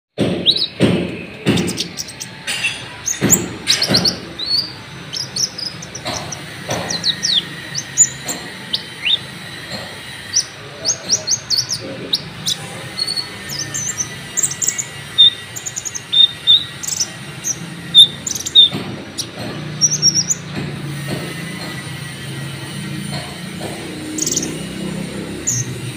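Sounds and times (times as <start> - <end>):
bird singing high chirps: 0.4 - 20.5, 24.0 - 25.9.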